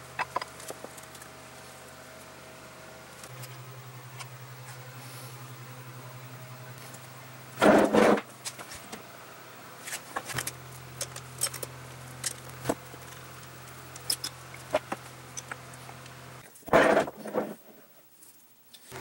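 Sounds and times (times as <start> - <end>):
fan humming: 0.0 - 17.7.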